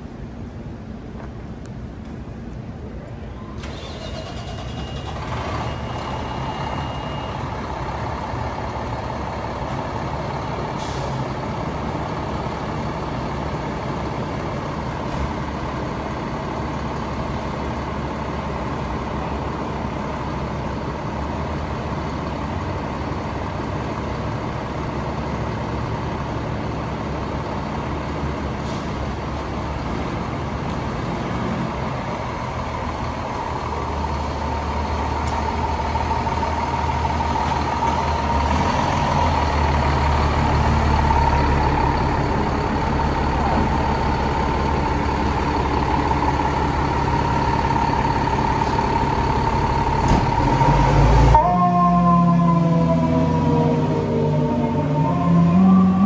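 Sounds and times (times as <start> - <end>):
diesel engine idling: 2.7 - 56.0.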